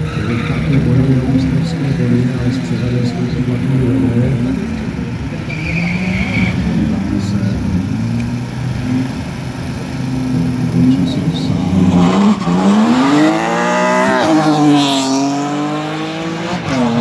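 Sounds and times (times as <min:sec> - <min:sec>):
drag race cars accelerating: 0:00.0 - 0:17.0.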